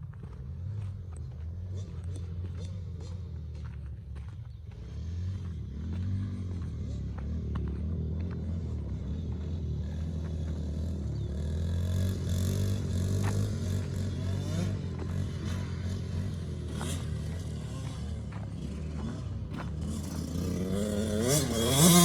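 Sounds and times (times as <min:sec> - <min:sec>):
off-road vehicle engines revving: 0:00.0 - 0:22.0.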